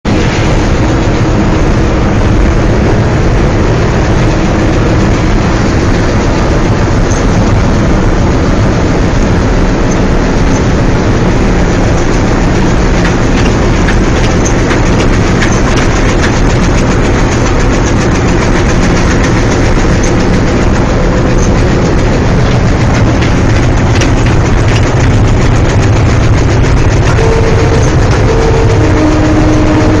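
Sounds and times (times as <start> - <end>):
diesel locomotive engine: 0.0 - 30.0
wheel on rail clicks: 4.0 - 30.0.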